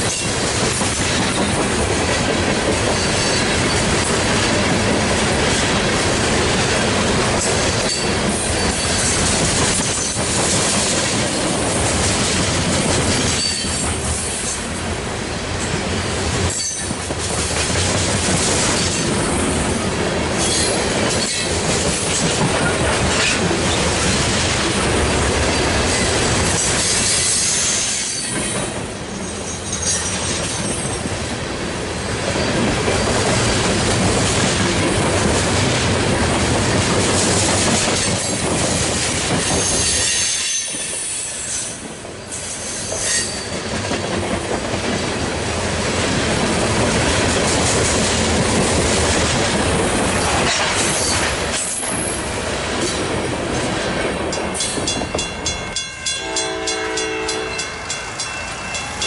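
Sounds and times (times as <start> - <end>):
freight train wheels clattering on rails: 0.0 - 59.0.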